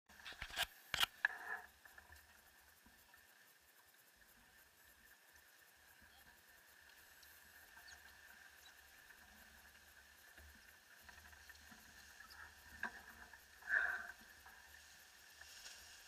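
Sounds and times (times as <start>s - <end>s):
faint steady hiss: 0.1s - 16.0s
thin steady tone: 0.1s - 16.0s.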